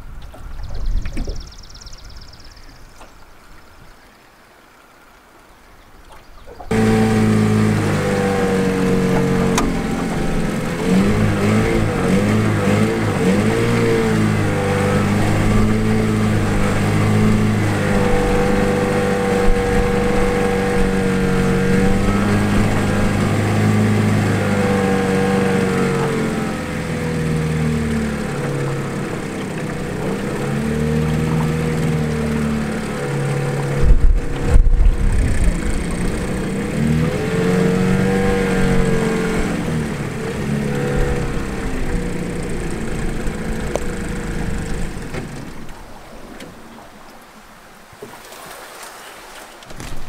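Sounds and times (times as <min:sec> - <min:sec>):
small outboard motor running: 0:06.2 - 0:50.0.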